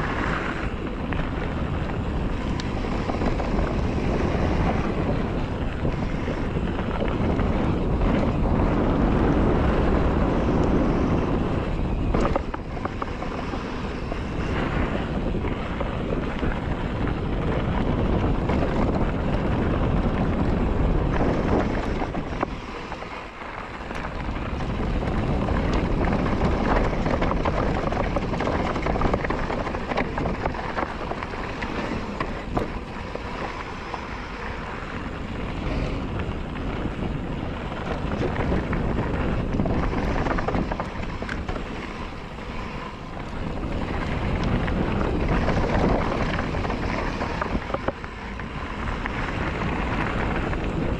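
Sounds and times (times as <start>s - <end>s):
bike rolling noise: 0.0s - 50.9s
wind rushing over microphone: 0.0s - 50.9s.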